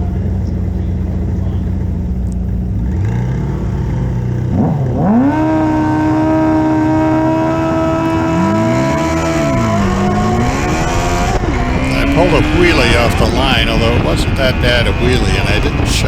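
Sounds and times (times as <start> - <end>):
motorcycle engine revving: 0.0 - 16.0
second engine rising and falling: 0.0 - 16.0.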